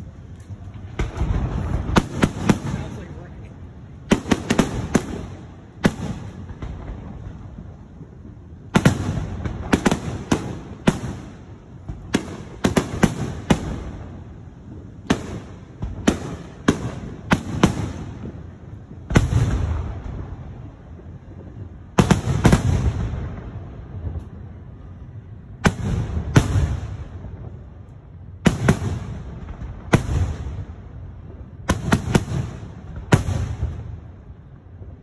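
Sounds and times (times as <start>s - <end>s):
fireworks bangs: 0.0s - 35.0s.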